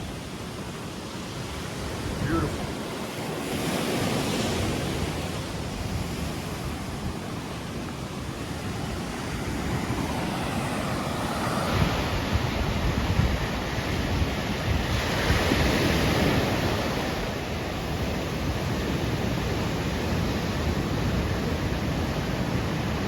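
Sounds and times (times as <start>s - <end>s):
ocean surf on sand beach: 0.0s - 23.0s.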